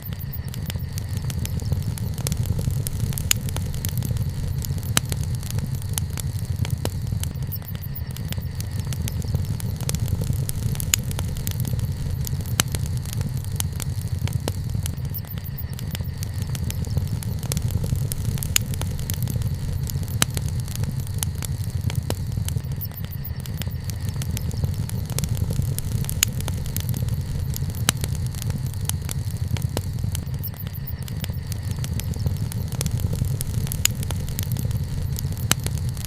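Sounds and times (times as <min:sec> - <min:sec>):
fire popping: 0:00.0 - 0:36.0
wood fire crackling: 0:00.0 - 0:36.0.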